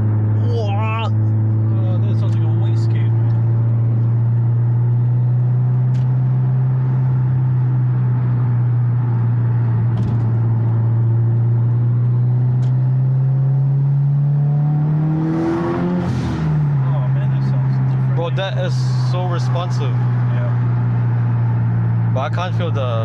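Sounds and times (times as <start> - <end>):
car engine droning under load: 0.0 - 23.0.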